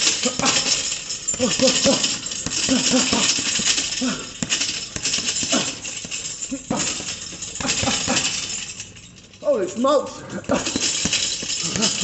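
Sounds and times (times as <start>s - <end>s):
boxing gloves hitting a punching bag: 0.0s - 8.5s, 10.4s - 12.0s.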